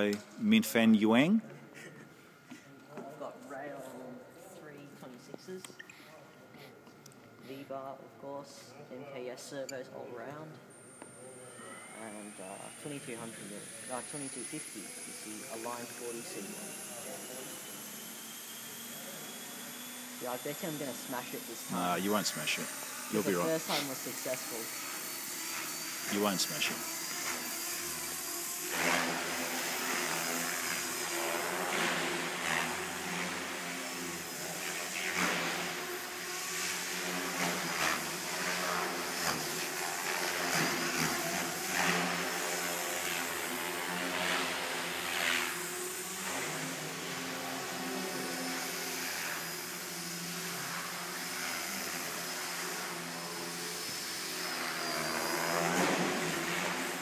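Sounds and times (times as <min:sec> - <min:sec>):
rc helicopter motor whine: 0:09.2 - 0:57.0.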